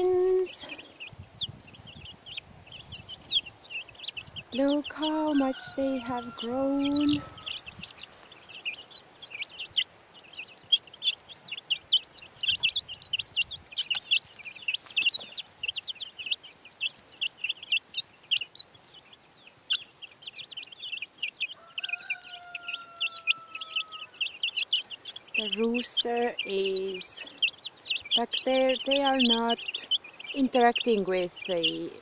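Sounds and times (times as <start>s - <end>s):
chicks cheeping: 0.0s - 32.0s.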